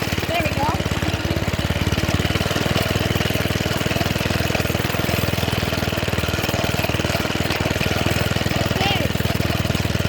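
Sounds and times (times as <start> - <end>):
small engine pulsing: 0.0 - 10.0.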